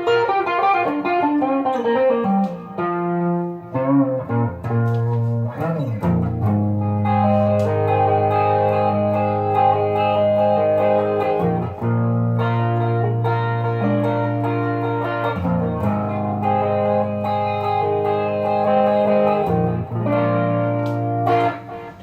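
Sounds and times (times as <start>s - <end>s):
electric guitar chords ringing: 0.0s - 22.0s.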